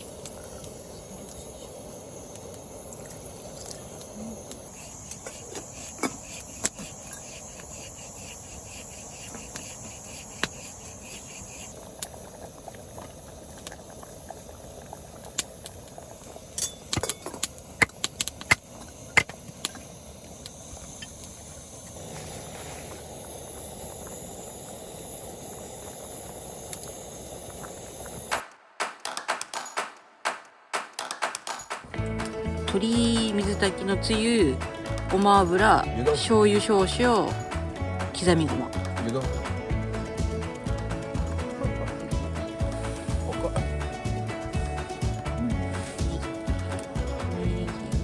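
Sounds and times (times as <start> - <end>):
pot simmering hiss: 0.0 - 28.6, 31.8 - 48.0.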